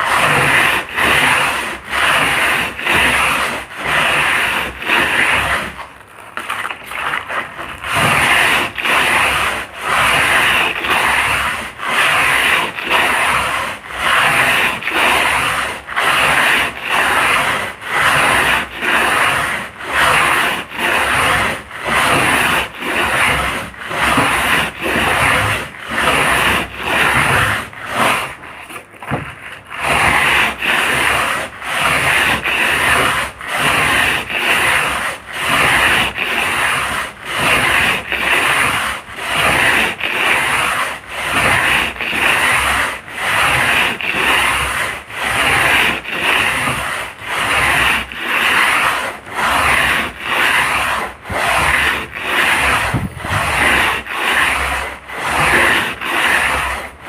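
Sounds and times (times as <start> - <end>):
sandpaper scraping by hand: 0.0 - 57.0.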